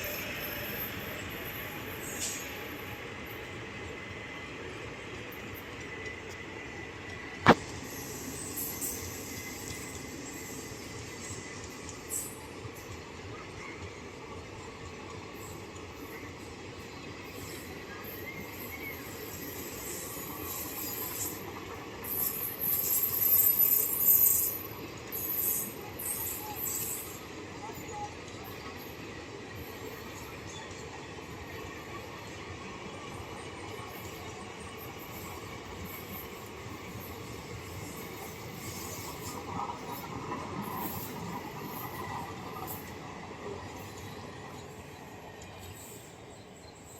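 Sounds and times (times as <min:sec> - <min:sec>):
train rolling rumble: 0:00.0 - 0:46.9.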